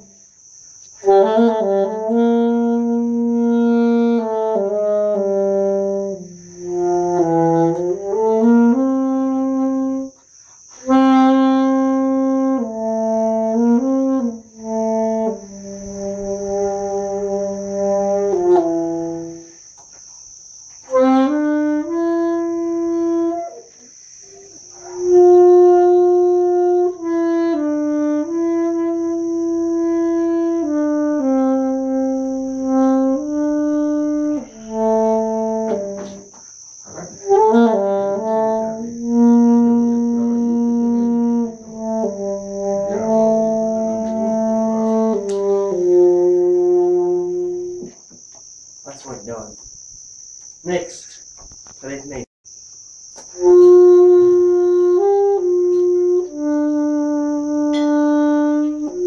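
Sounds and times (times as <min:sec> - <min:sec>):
alto saxophone playing slow melody: 0:00.0 - 0:19.8, 0:20.7 - 0:48.1, 0:53.2 - 0:59.0.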